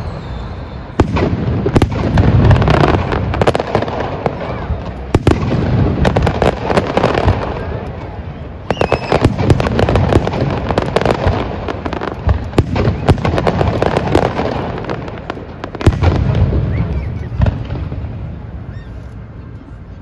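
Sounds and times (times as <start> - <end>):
fireworks bangs and crackling: 0.0 - 19.6.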